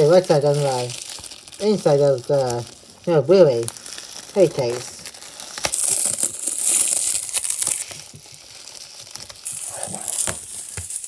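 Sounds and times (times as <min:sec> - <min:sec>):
plastic shrink-wrap crinkling: 0:00.0 - 0:11.0.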